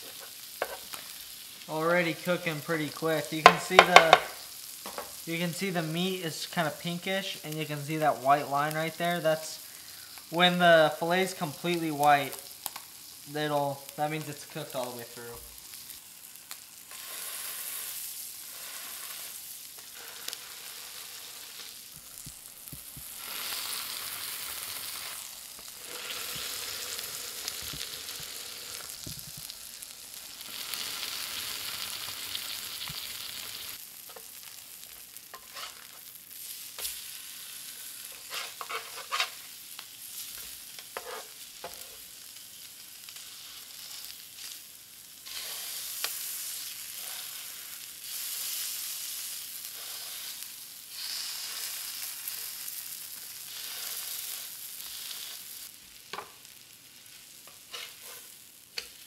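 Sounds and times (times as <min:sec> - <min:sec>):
fish frying in butter: 0:07.3 - 0:59.0.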